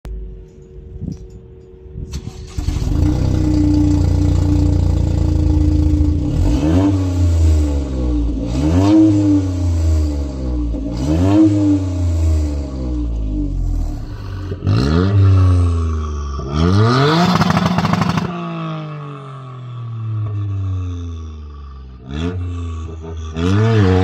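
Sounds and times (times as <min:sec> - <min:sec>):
car engine idling and revving: 0:00.1 - 0:24.0.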